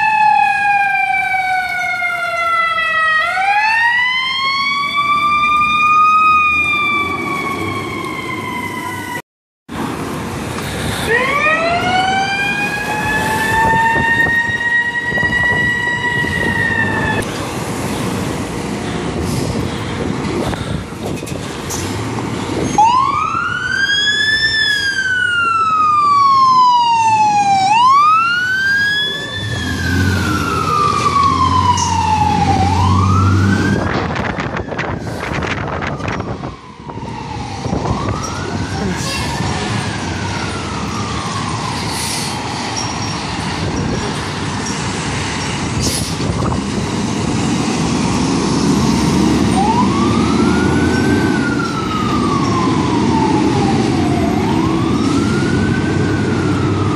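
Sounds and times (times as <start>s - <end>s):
fire truck sirens wailing: 0.0s - 9.2s, 9.8s - 56.9s
fire truck engine rumble: 0.0s - 56.9s.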